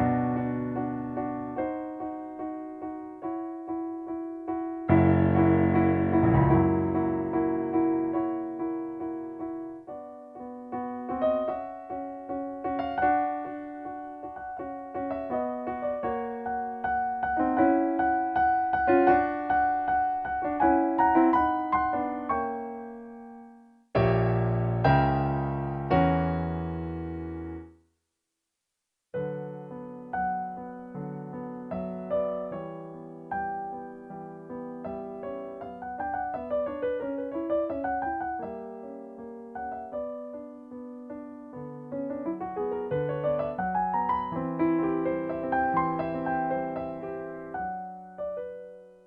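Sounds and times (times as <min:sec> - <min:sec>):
piano music: 0:00.0 - 0:27.7, 0:29.2 - 0:49.0.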